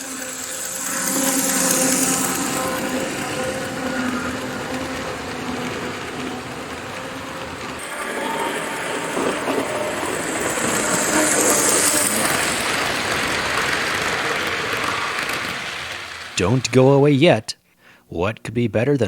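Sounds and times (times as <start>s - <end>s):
toy train motor humming: 0.0s - 17.0s
wheels rattling on rails: 0.0s - 17.1s.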